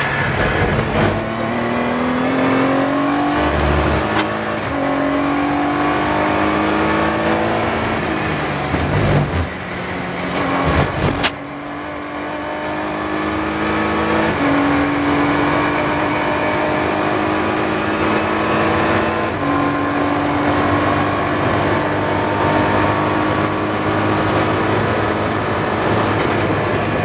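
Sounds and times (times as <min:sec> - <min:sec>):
gear upshifts: 0:00.0 - 0:27.0
race car engine at full throttle: 0:00.0 - 0:27.0.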